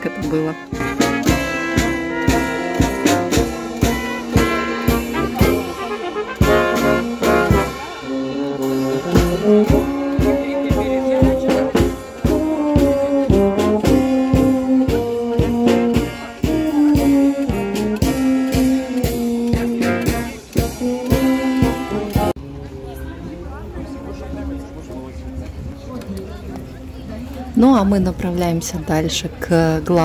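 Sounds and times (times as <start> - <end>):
brass band playing tango: 0.0 - 25.7.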